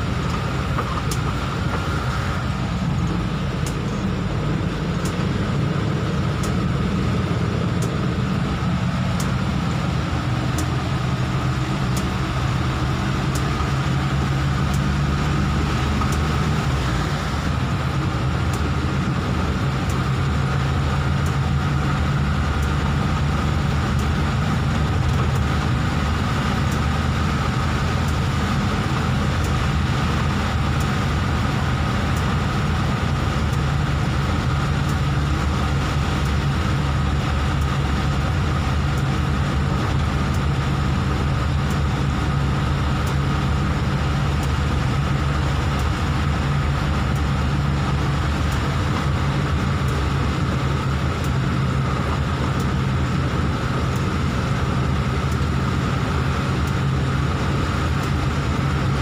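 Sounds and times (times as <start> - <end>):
low engine hum: 0.0 - 59.0
rain hitting windscreen: 0.0 - 59.0
tyres on wet road: 0.0 - 59.0.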